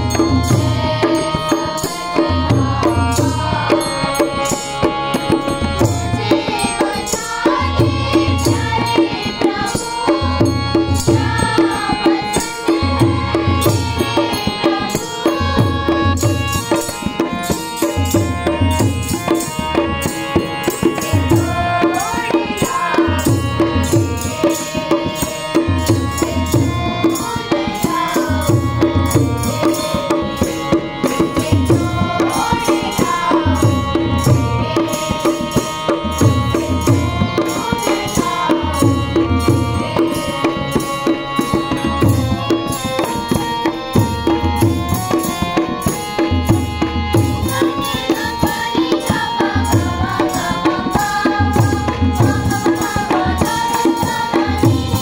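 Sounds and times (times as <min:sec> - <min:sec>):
girls singing a prayer song: 0:00.0 - 0:17.2, 0:19.1 - 0:42.0, 0:47.1 - 0:55.0
harmonium chords: 0:00.0 - 0:55.0.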